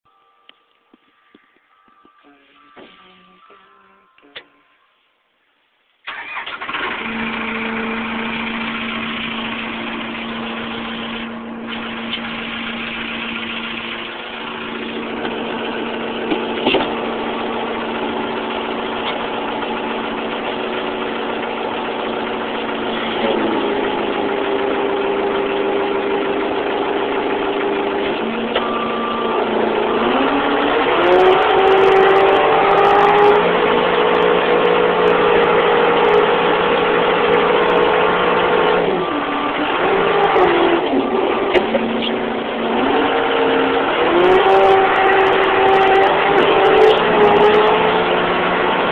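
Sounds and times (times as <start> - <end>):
diesel engine running and revving: 6.1 - 48.9.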